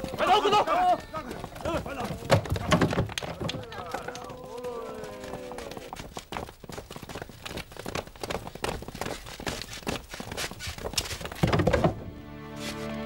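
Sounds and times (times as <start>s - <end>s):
running footsteps on hard street: 0.0s - 11.8s.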